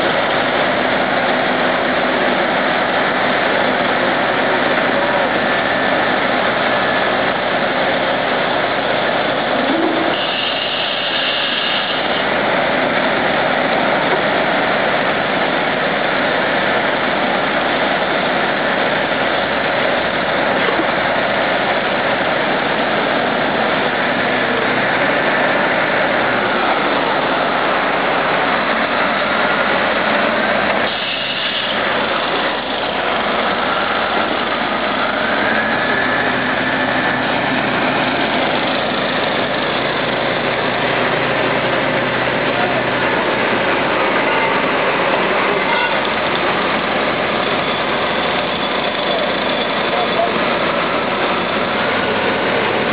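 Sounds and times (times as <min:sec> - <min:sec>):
heavy diesel engines running: 0:00.0 - 0:52.9.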